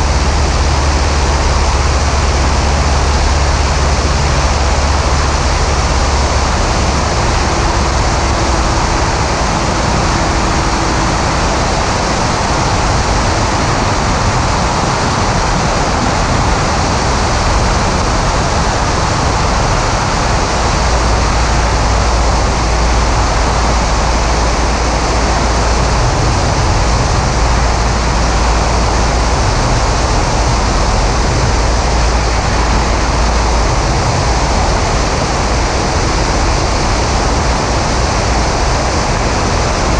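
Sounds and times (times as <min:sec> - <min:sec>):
heavy low rumble: 0:00.0 - 0:39.9
plane engine and propeller drone: 0:00.0 - 0:39.9
wind buffeting camera: 0:00.0 - 0:39.9.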